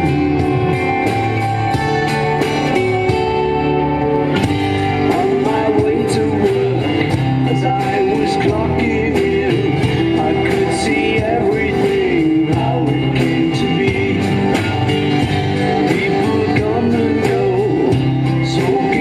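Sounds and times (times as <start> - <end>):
rock music with guitar and vocals: 0.0 - 19.0.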